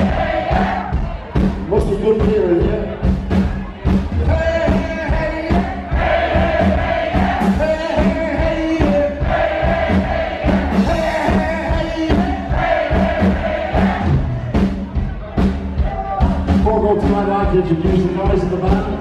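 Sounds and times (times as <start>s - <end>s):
live rock and roll band playing: 0.0s - 19.0s
steady drum beat: 0.0s - 19.0s.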